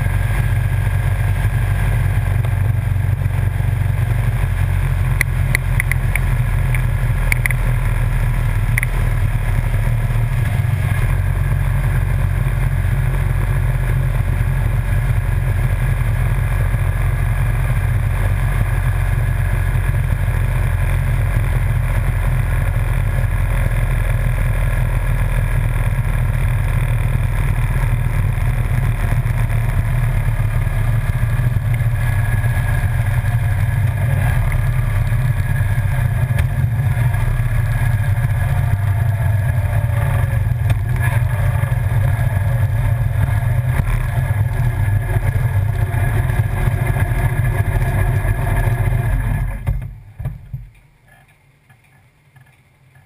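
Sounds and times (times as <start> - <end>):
motorcycle engine cruising: 0.0 - 50.7.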